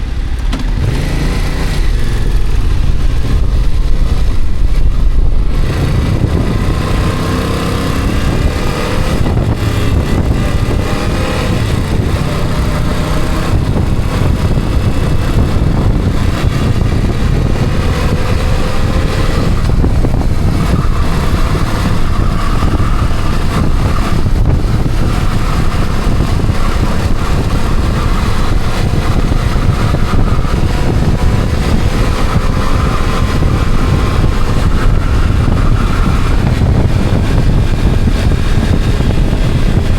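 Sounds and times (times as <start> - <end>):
road noise: 0.0 - 39.9
vehicle engine accelerating: 0.0 - 39.9.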